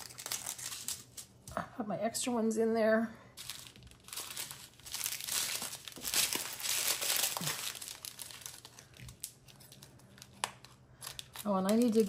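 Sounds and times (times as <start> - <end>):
plastic bag crinkling: 0.0 - 1.4, 3.4 - 12.0.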